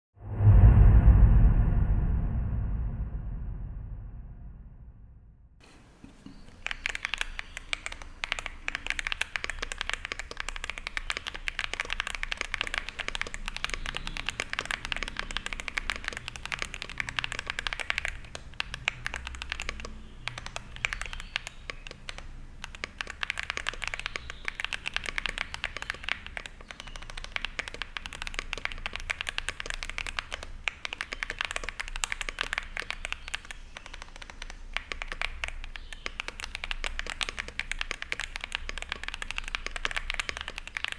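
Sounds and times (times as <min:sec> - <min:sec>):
mechanical keyboard key clacks: 0:06.4 - 0:40.9.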